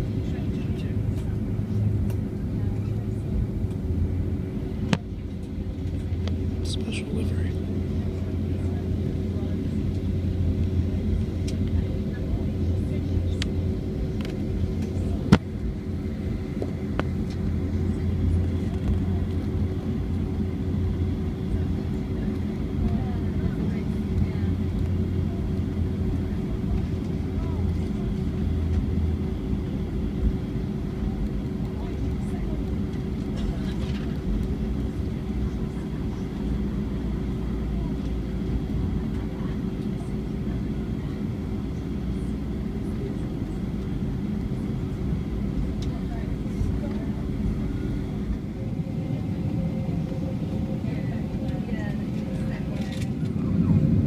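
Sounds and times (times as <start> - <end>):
airplane engine rumble: 0.0 - 54.0.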